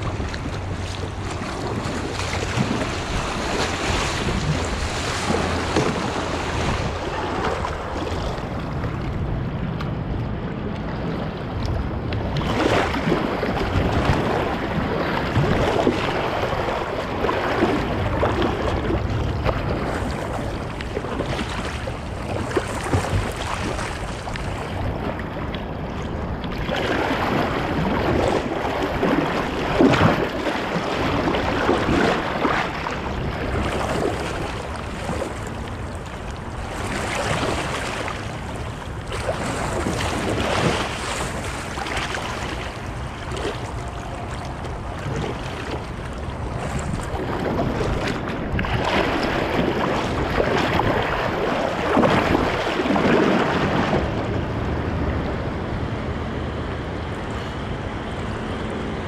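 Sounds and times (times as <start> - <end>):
paddle strokes splashing: 0.0 - 54.8
wind buffeting microphone: 0.0 - 59.0.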